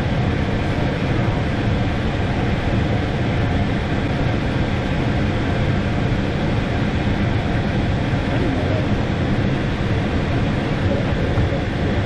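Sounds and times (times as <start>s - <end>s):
blower fan whooshing: 0.0s - 12.0s.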